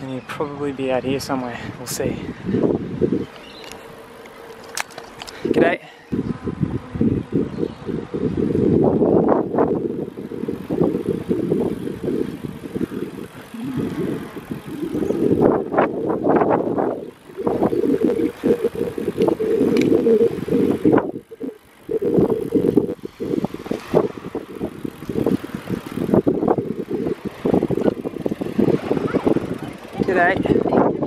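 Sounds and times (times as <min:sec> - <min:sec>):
wind rumbling on microphone: 0:00.0 - 0:31.0
bicycle tyres rolling: 0:01.2 - 0:31.0.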